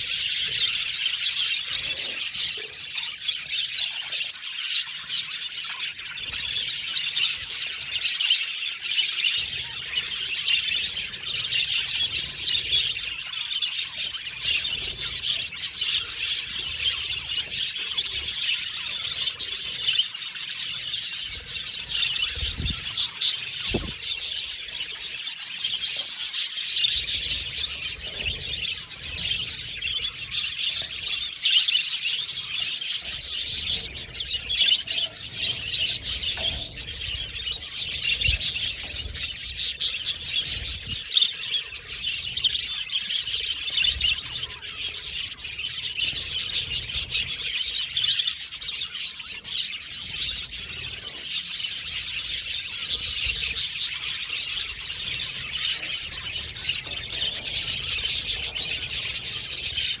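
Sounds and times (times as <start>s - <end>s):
budgerigars chirping and warbling: 0.0s - 60.0s.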